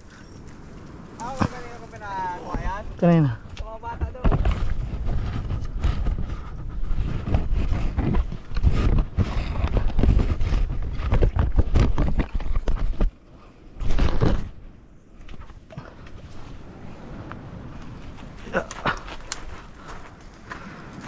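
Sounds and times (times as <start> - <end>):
dry branches rustling and crackling: 0.0 - 13.2, 13.8 - 21.0
handling and wind rumble: 0.0 - 21.0.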